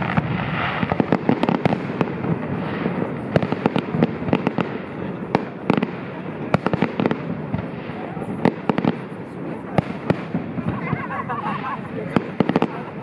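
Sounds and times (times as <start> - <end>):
fireworks cracks and pops: 0.0 - 13.0
fireworks rushing hiss: 0.0 - 13.0.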